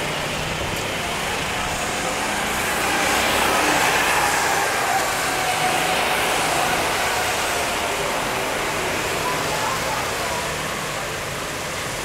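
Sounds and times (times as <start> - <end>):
go-kart engine whine: 0.0 - 10.9
distant kart engines: 0.0 - 12.0
rain: 0.0 - 12.0.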